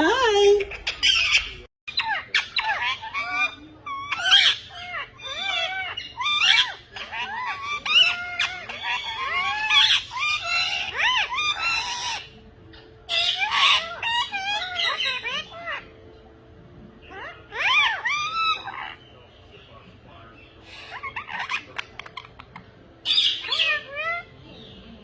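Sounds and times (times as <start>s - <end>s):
parrots squawking: 0.0s - 25.0s.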